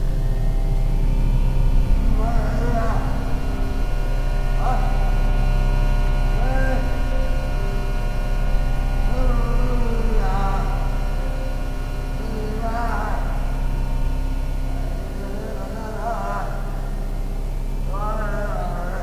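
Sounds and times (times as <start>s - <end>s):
electrical hum: 0.0s - 19.0s
wavering bending tones: 0.0s - 19.0s.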